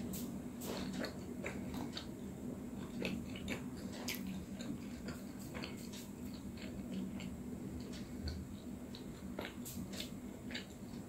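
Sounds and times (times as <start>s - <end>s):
steady low hum: 0.0s - 11.0s
chewing with wet mouth clicks: 0.6s - 11.0s.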